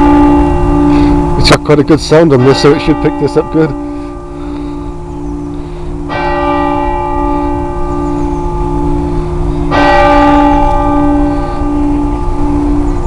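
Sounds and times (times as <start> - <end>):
low wavering hum: 0.0 - 1.5, 3.8 - 13.0
church clock bell striking: 0.0 - 13.0.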